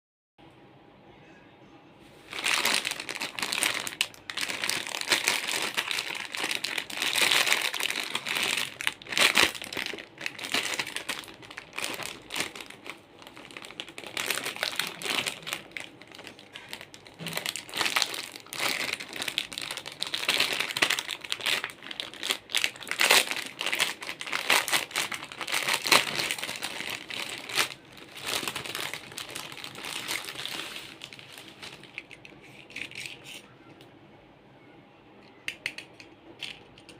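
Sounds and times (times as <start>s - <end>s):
packaging crinkling: 2.2s - 33.2s.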